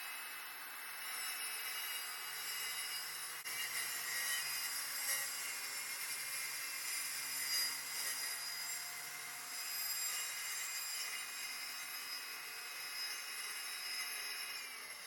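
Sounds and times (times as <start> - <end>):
saw rasping through wood: 0.7 - 15.0.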